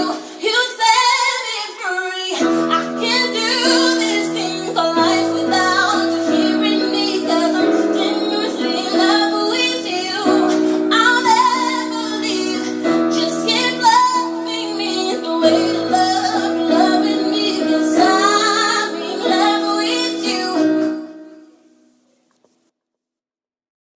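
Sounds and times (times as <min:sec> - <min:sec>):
woman singing: 0:00.0 - 0:21.4.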